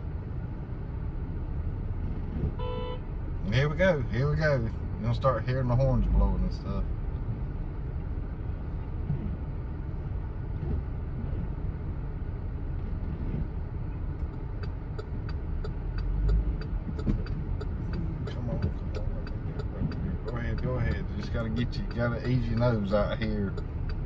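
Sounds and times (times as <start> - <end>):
vehicle engine and tyres rumbling: 0.0 - 24.0.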